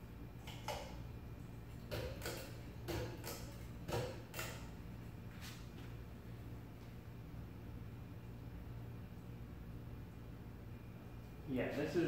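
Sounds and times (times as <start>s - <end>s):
low steady fan hum: 0.0s - 12.0s.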